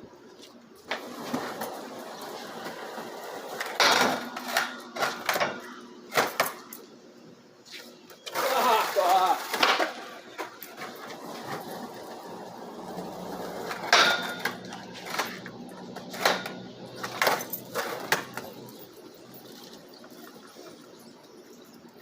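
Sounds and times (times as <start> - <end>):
skateboard wheels rolling on pavement: 0.0 - 7.0, 7.6 - 22.0
skateboard clacking on ground: 0.8 - 6.9, 9.3 - 20.9.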